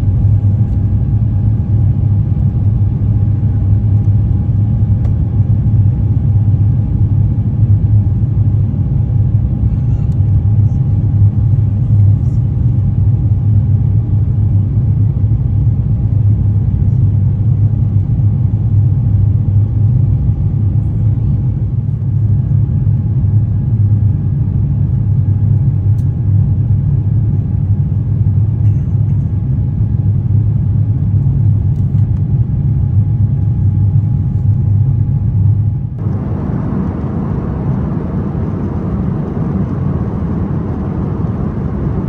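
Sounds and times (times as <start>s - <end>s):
airplane cabin roar: 0.0s - 42.0s
faint steady whine: 0.0s - 42.0s.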